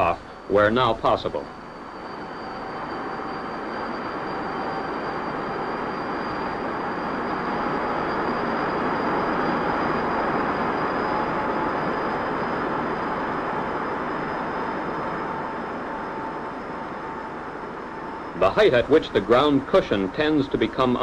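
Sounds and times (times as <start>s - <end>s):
high thin whine: 0.0s - 21.0s
jet fan rushing roar: 0.0s - 21.0s
lower whine: 0.0s - 21.0s.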